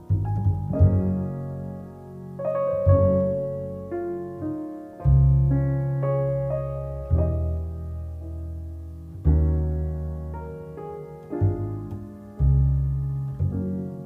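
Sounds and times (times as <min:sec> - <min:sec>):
jazz piano ballad: 0:00.0 - 0:14.0.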